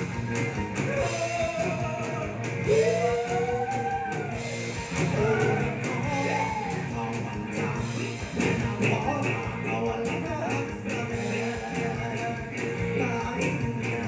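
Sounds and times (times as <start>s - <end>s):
drum kit: 0.0s - 14.0s
electric guitars: 0.0s - 14.0s
man singing long notes: 0.8s - 4.4s, 5.0s - 14.0s.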